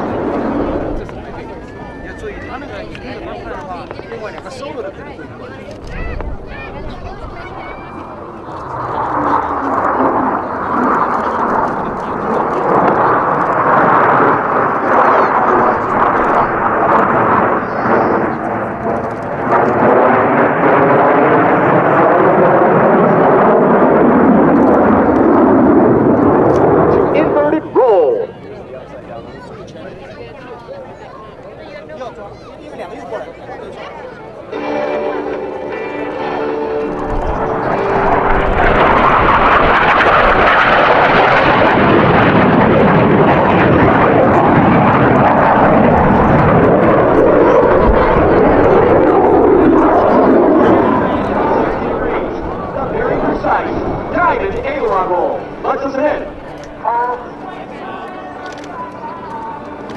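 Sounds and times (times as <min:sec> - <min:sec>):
jets flying past: 0:00.0 - 0:28.3, 0:34.6 - 0:58.1.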